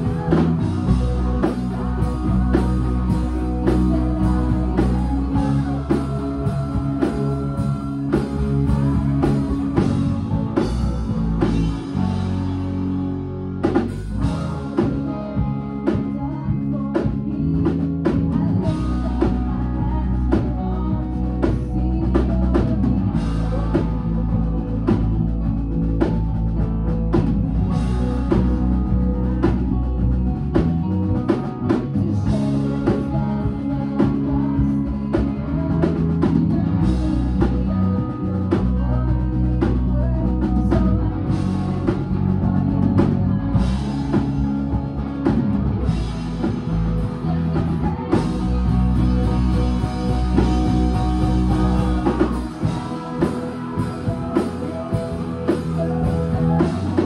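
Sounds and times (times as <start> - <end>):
drum kit beat: 0.0 - 13.0, 13.6 - 57.0
rock band playing: 0.0 - 57.0.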